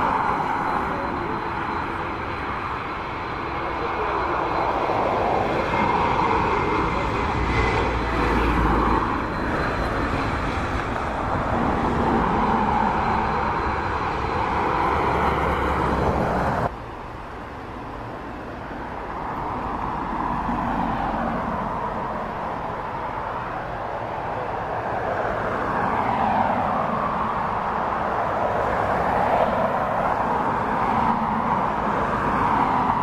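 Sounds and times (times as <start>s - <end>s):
airliner jet engines landing: 0.0s - 33.0s
jet engine on the ground: 0.0s - 33.0s.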